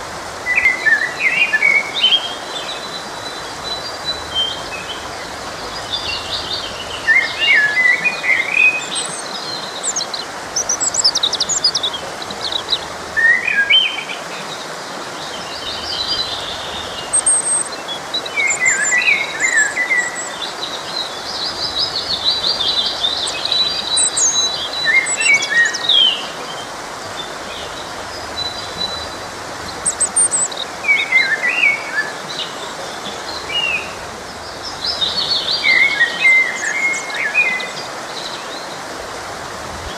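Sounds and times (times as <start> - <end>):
forest stream rushing: 0.0 - 39.9
songbirds singing and chirping: 0.0 - 39.9.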